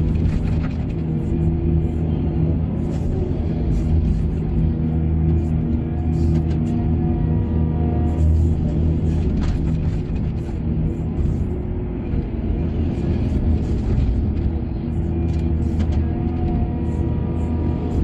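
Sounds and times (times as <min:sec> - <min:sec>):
excavator engine rumbling: 0:00.0 - 0:18.0.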